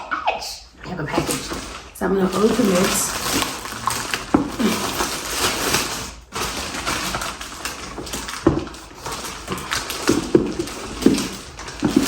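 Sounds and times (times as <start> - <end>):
packaging rustling and crackling: 1.1 - 12.0
packaging tearing: 1.3 - 12.0.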